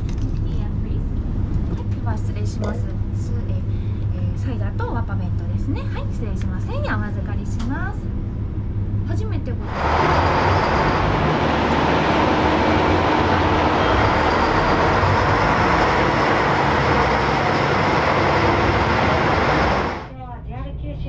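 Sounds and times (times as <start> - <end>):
diesel railcar engines running: 0.0 - 21.0.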